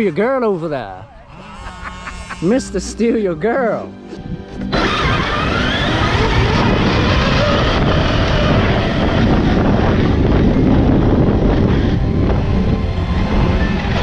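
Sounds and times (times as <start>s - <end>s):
wind on microphone: 1.1s - 14.0s
electric motor whine: 1.2s - 3.1s, 3.8s - 14.0s.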